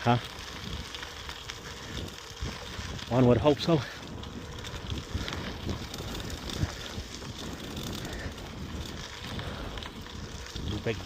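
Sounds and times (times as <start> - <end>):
bicycle tyres on rough ground: 0.0 - 11.0
bike rattling and knocking: 0.0 - 11.0
wind on microphone: 0.4 - 11.0.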